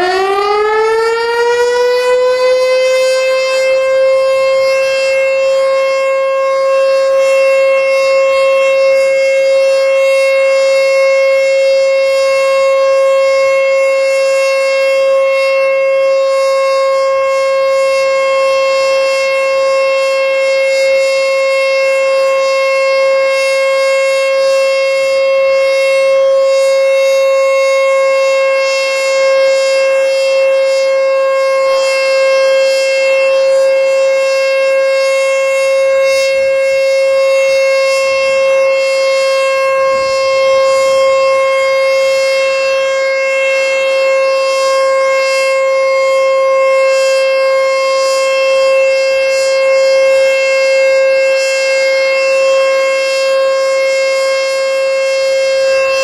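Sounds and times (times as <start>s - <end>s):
tornado warning siren steady tone: 0.0s - 56.0s.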